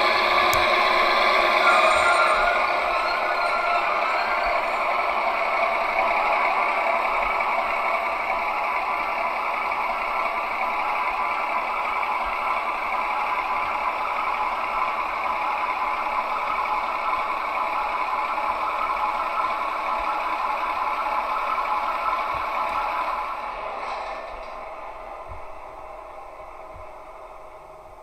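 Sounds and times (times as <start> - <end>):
tinny diesel engine drone: 0.0 - 28.0.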